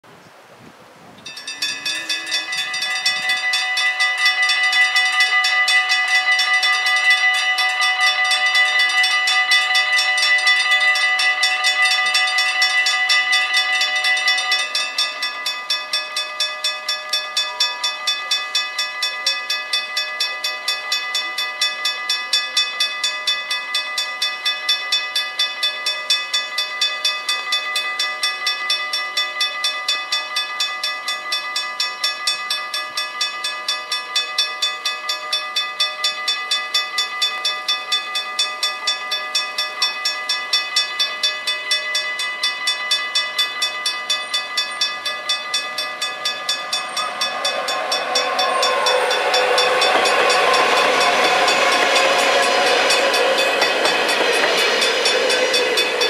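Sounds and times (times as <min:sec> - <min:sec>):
level crossing bells ringing: 0:01.2 - 0:56.0.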